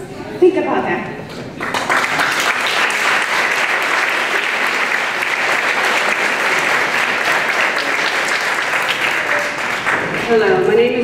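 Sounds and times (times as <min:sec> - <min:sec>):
audience applauding: 0:01.6 - 0:10.6.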